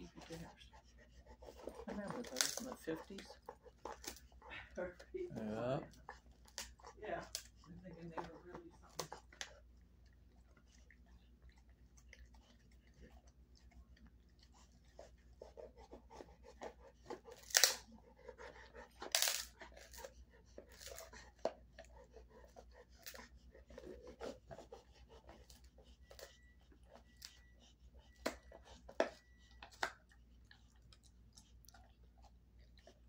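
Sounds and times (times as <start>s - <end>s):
dog chewing and crunching: 0.0s - 33.0s.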